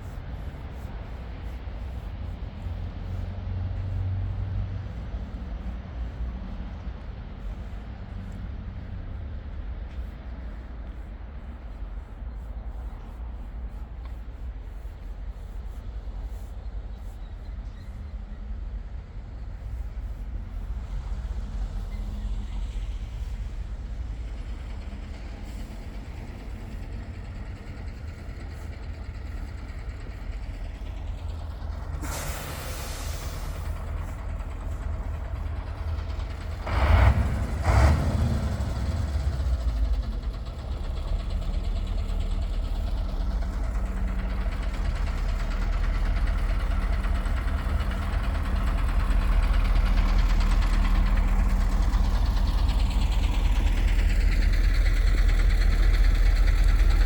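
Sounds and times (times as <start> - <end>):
vehicles passing: 0.0 - 13.1, 18.2 - 57.0
hiss: 10.1 - 57.0.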